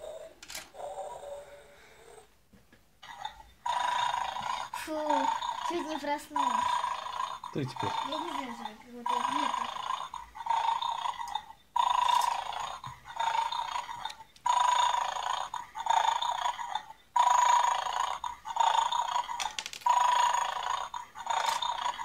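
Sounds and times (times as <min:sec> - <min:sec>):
toy snoring through speaker: 0:00.0 - 0:02.3, 0:03.0 - 0:22.0.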